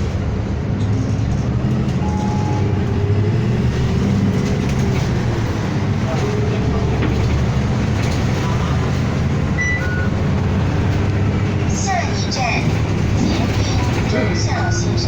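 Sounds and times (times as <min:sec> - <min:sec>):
bus engine droning: 0:00.0 - 0:15.0
road and cabin noise: 0:00.0 - 0:15.0.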